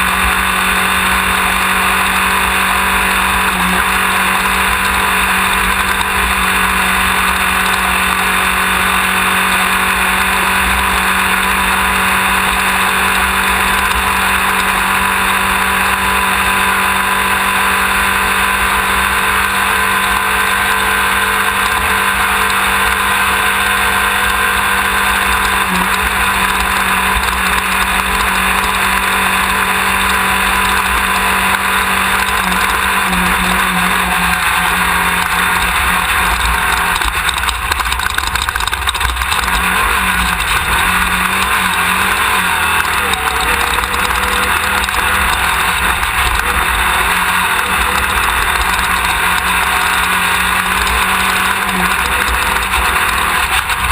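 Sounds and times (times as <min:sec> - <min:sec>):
race car engine droning: 0:00.0 - 0:53.9.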